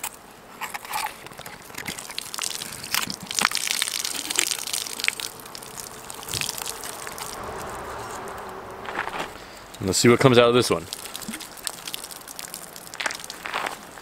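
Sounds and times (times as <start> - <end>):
water pouring: 1.6 - 8.3, 9.4 - 14.0.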